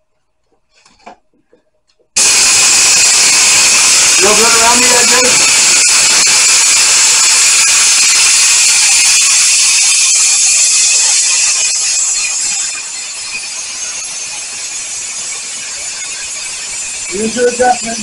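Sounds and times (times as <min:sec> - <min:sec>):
spray gun hissing: 0:02.2 - 0:18.0.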